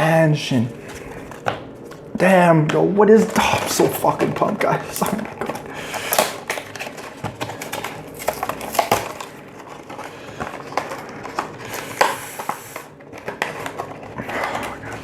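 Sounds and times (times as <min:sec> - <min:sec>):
cards and foil wrappers crinkling: 0:00.6 - 0:15.0.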